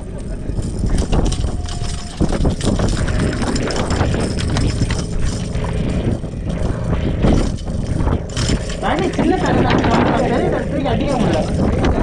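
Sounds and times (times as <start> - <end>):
low boat rumble: 0.0 - 12.0.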